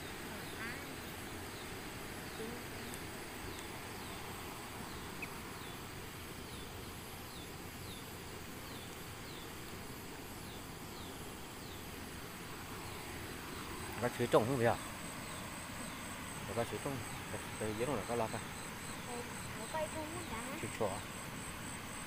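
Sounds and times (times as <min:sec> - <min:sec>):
high insect drone: 0:00.0 - 0:22.0
steady hiss: 0:00.0 - 0:22.0.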